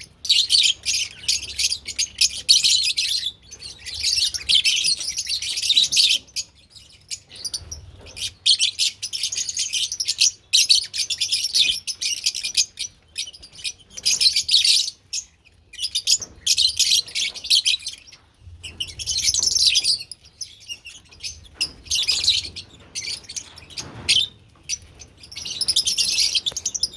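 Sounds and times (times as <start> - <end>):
lovebirds chirping: 0.0 - 26.9.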